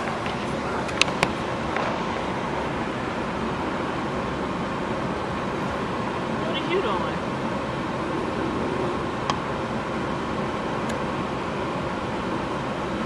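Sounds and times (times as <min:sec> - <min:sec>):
heater blower rushing air: 0:00.0 - 0:13.0.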